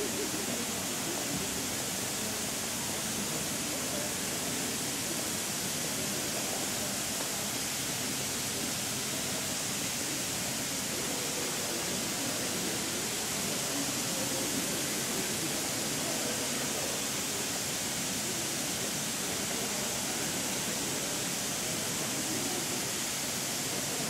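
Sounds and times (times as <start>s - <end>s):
sprinkler jets spraying water: 0.0s - 24.0s.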